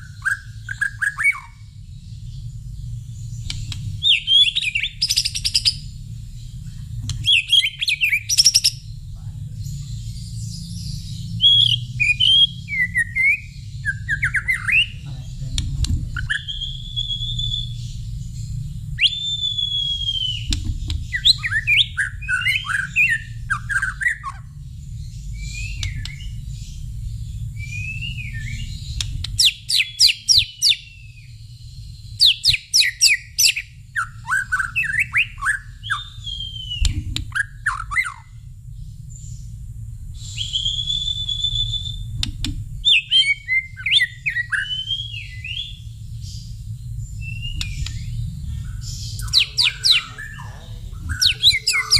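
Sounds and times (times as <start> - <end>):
songbird whistling and warbling: 0.0 - 1.7, 3.4 - 5.9, 7.1 - 8.9, 9.8 - 15.0, 16.1 - 24.5, 25.2 - 26.7, 27.4 - 38.4, 40.2 - 42.2, 42.8 - 51.9
steady low hum: 0.0 - 51.9.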